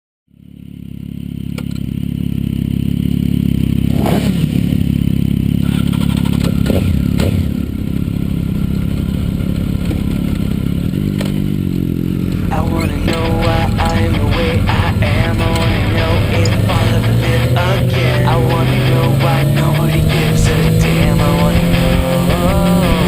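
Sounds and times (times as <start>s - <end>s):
motorcycle engines idling: 0.3s - 23.0s.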